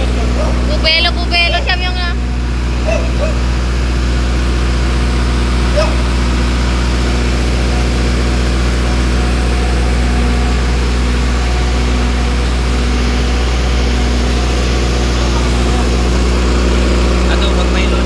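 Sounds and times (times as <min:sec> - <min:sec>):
diesel generator running: 0:00.0 - 0:18.0.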